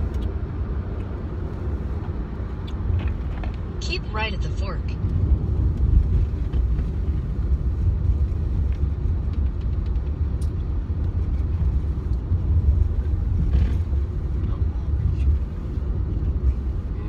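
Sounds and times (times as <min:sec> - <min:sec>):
road rumble inside car: 0:00.0 - 0:17.0.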